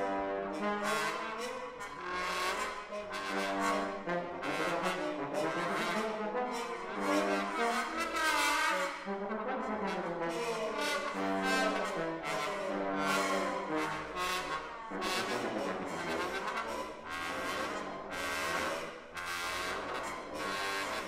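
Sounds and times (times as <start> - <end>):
trombone quartet playing: 0.0 - 21.0.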